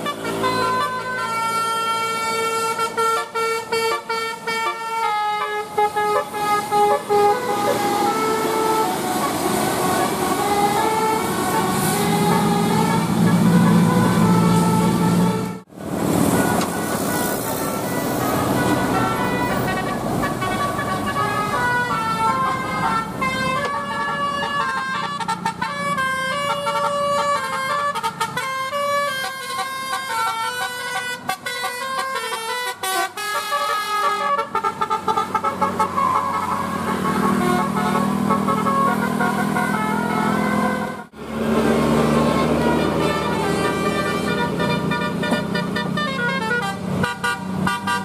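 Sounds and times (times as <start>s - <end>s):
bus engine: 0.0s - 48.0s
multi-tone bus air horn tune: 0.0s - 48.0s
road noise: 0.0s - 48.0s.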